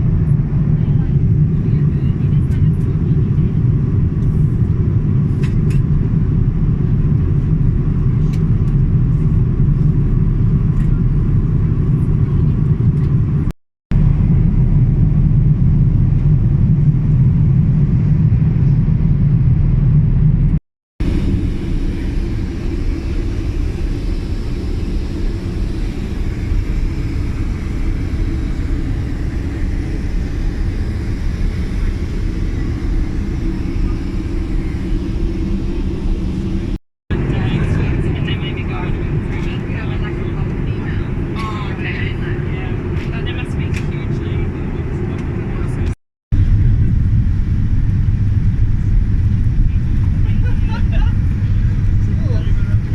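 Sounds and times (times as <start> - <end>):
airplane cabin rumble: 0.0 - 52.9.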